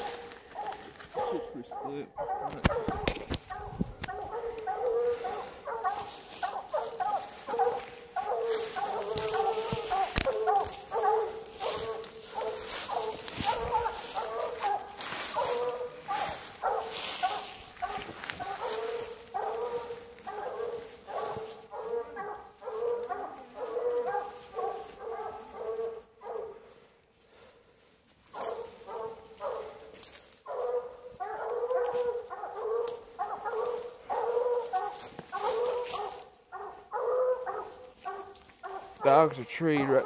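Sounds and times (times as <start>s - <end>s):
dogs barking: 0.0s - 27.5s, 28.3s - 40.0s.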